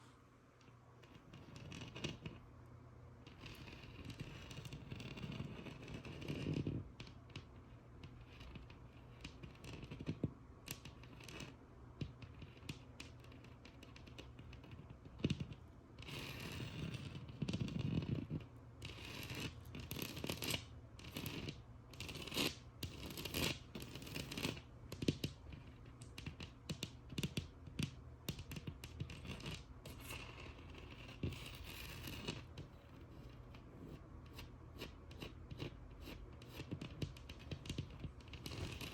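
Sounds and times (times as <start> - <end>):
fingernails scratching on a wall: 1.0 - 2.5, 3.2 - 38.9
fingernails tapping on a wall: 5.9 - 38.9.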